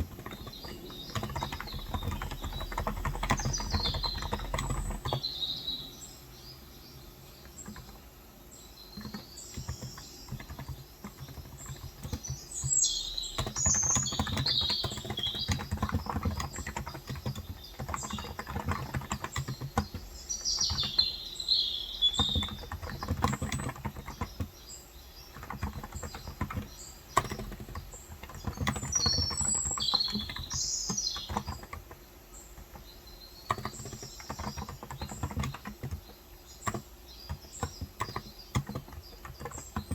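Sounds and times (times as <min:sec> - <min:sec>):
keyboard typing: 0:00.0 - 0:06.0, 0:07.3 - 0:08.0, 0:08.9 - 0:39.9
birds chirping: 0:00.0 - 0:39.9.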